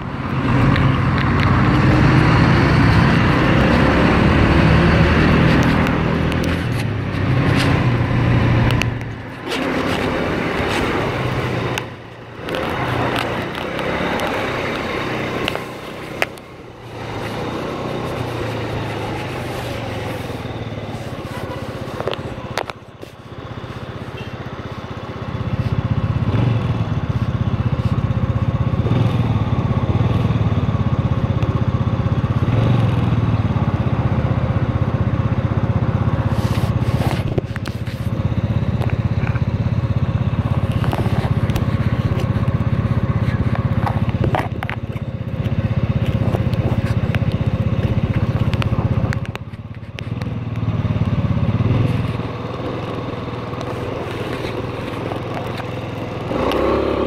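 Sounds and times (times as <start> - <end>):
motor scooter engine running: 0.0 - 57.0.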